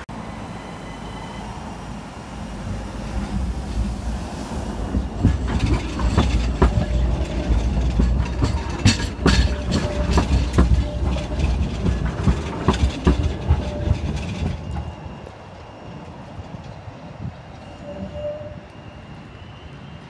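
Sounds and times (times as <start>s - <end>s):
tram rumbling past: 0.0s - 20.0s
wheels clacking on rails: 0.0s - 20.0s.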